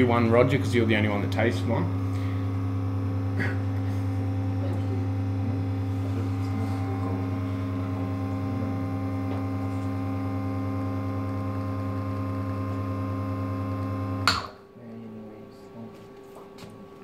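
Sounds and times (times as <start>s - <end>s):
espresso machine pump humming: 0.0s - 14.5s.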